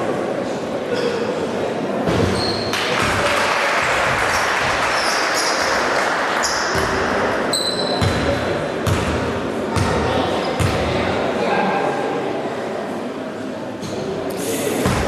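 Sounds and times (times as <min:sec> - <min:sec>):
crowd murmur in large hall: 0:00.0 - 0:15.0.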